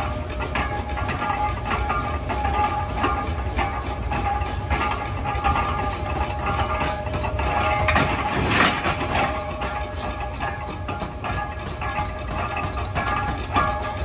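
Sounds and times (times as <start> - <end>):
machinery mechanical rumble: 0.0 - 14.0
rapid metallic clinks and clicks: 0.0 - 14.0.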